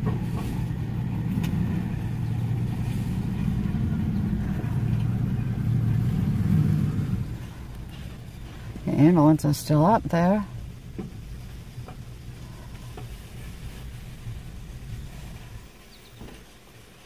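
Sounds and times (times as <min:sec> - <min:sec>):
vehicle engine hum from inside: 0:00.0 - 0:17.0.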